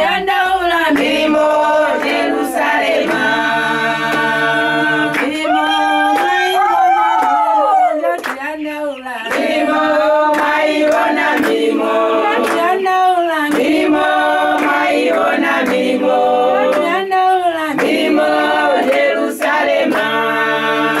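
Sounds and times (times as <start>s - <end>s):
women's choir singing a hymn: 0.0s - 21.0s.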